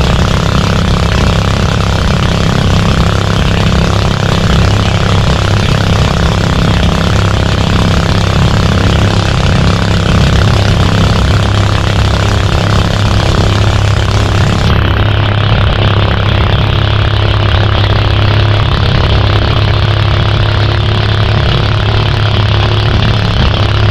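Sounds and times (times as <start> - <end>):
boat engine running: 0.0 - 23.9
rushing noise: 0.0 - 23.9.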